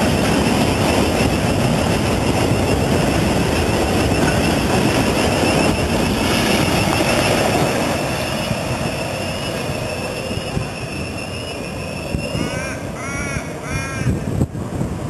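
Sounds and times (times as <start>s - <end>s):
high squeal from train wheels: 0.0s - 14.1s
freight wagons rumbling on rails: 0.0s - 15.0s.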